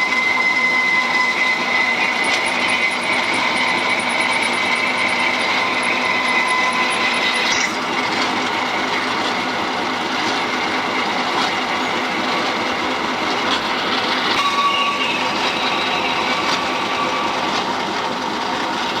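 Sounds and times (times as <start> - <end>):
thin cutting whine: 0.0 - 9.4, 10.1 - 17.8
machine tool running: 0.0 - 19.0.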